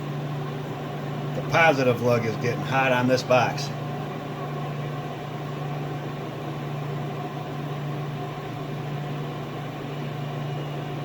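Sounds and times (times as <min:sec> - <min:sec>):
constant low hum: 0:00.0 - 0:11.0
cooling fans whirring: 0:00.0 - 0:11.0.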